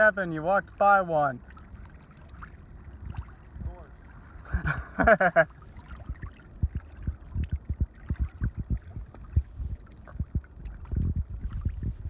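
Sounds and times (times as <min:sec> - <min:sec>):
low thumps and rumble: 0:01.5 - 0:12.0.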